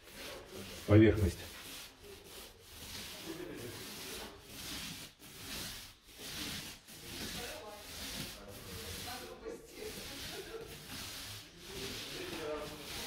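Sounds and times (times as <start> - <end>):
paint roller swishing: 0.0 - 13.0.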